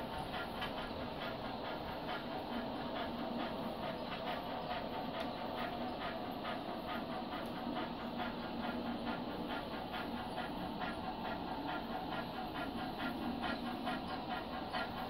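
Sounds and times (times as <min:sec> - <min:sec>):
model steam locomotive chuffing: 0:00.0 - 0:15.0
steady hum: 0:00.0 - 0:15.0.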